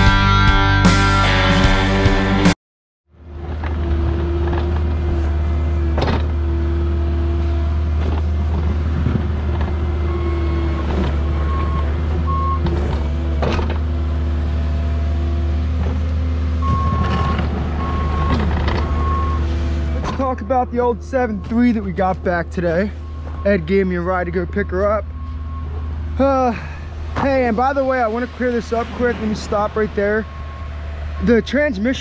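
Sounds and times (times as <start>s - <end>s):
heavy vehicle engine running: 3.1s - 32.0s.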